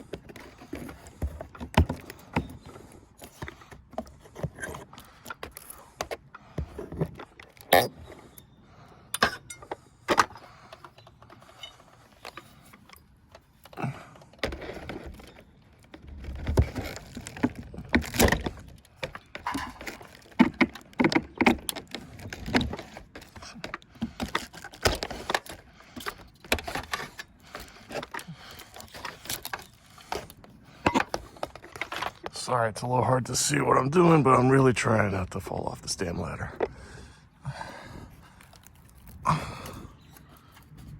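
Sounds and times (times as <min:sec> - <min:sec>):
wood scraping: 0:00.0 - 0:09.0, 0:09.6 - 0:40.9.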